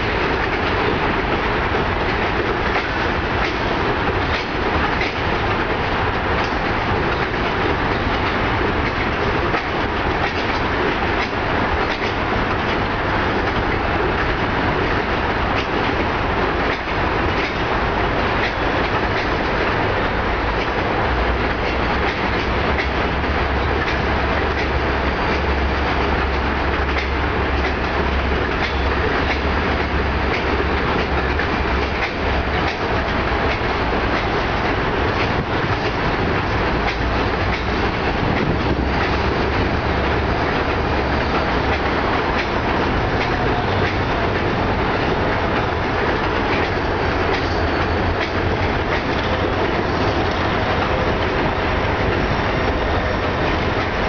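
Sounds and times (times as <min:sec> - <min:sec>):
freight train rumble on trestle: 0:00.0 - 0:54.0
wheels clacking over rail joints: 0:00.0 - 0:54.0.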